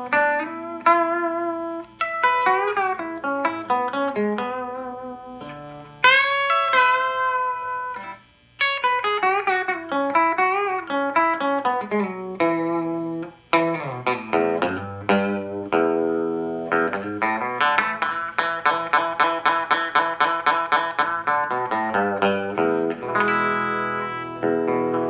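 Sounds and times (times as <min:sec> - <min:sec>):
clean electric guitar: 0:00.0 - 0:25.0.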